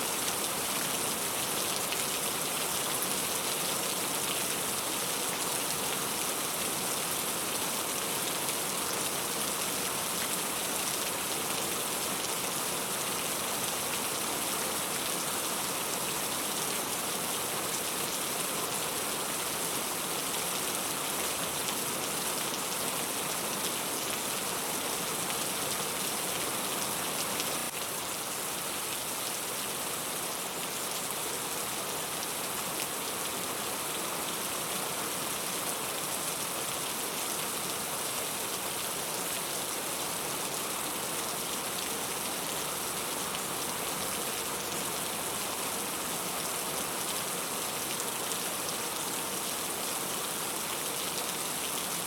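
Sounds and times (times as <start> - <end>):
rain hissing on a surface: 0.0 - 52.0.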